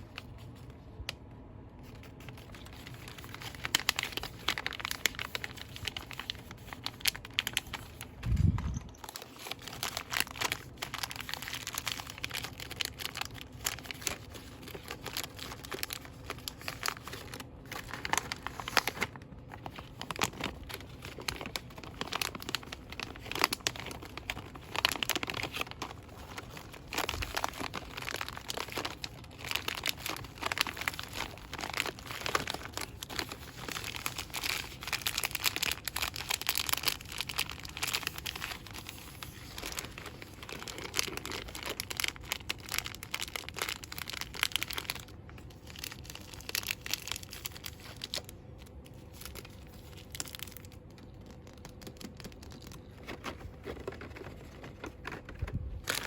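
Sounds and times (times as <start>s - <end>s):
packaging crinkling and rustling: 0.0s - 56.0s.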